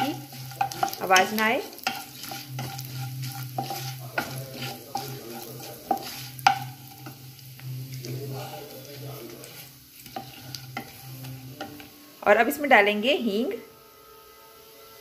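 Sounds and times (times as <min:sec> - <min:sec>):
spatula scraping pan: 0:00.0 - 0:12.0
spices sizzling in oil: 0:00.0 - 0:15.0.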